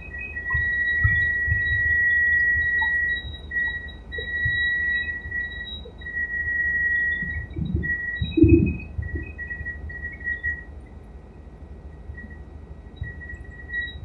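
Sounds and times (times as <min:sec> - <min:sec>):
low helicopter rumble: 0:00.0 - 0:06.1, 0:07.1 - 0:13.5.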